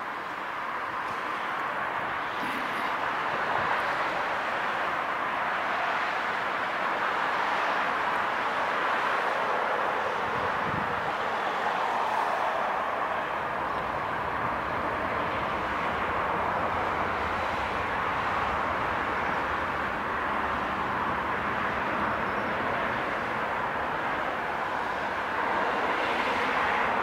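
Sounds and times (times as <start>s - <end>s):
distant jet engines on runway: 0.0s - 27.0s.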